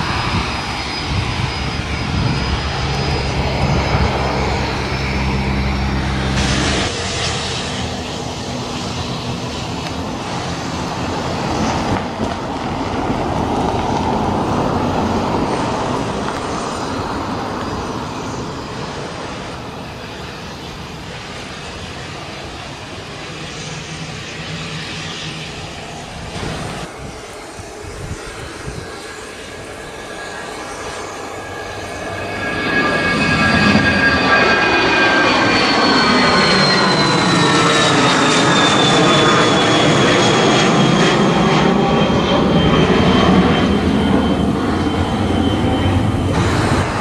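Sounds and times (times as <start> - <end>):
jet engines at takeoff: 0.0 - 47.0.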